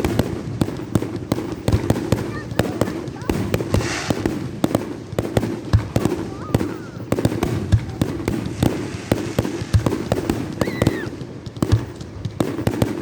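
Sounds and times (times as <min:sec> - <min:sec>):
fireworks and firecrackers banging: 0:00.0 - 0:13.0.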